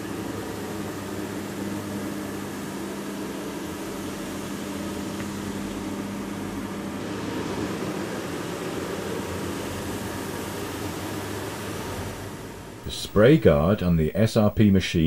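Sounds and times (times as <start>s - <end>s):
floor sanding machine humming: 0.0s - 12.7s.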